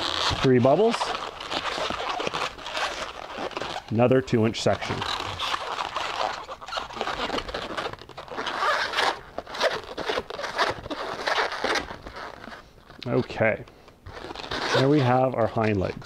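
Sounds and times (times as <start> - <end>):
balloons squeaking and rubbing: 0.0 - 16.0.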